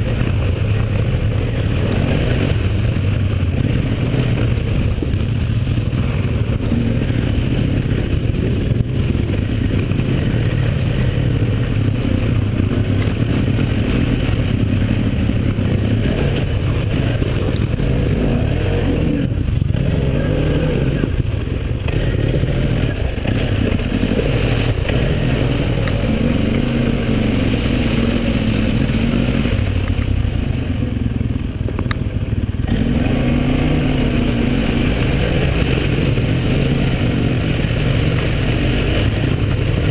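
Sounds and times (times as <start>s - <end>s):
quad bike engine revving: 0.0s - 39.9s
tyres churning through mud: 0.0s - 39.9s.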